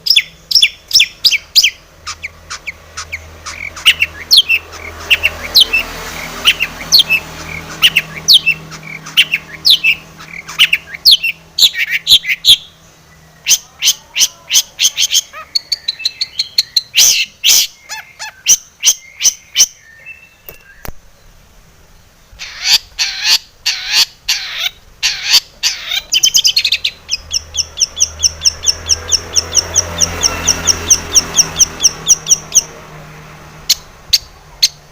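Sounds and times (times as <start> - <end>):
bird singing varied song: 0.0 - 32.9, 33.6 - 34.9.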